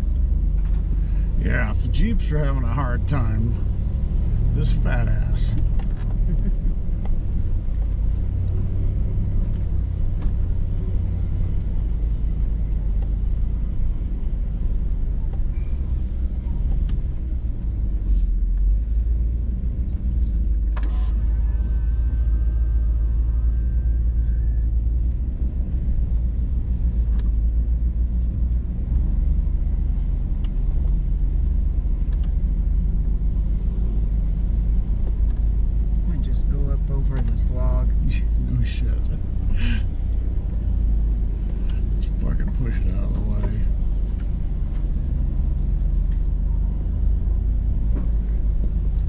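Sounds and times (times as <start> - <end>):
engine deep rumble inside cabin: 0.0 - 49.0.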